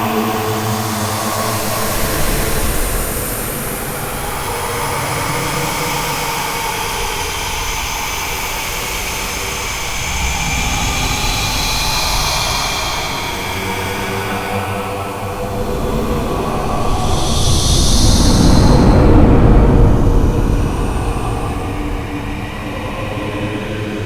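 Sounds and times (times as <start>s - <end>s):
dense steady drone: 0.0s - 24.0s.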